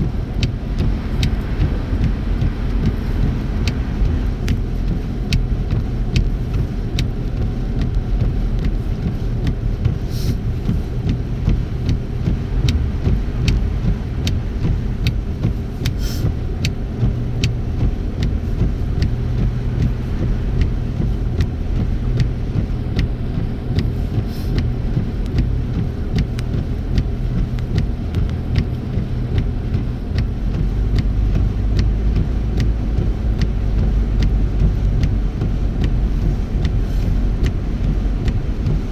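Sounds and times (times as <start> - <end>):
car engine and road rumble: 0.0 - 38.9
light ticks: 0.1 - 38.9.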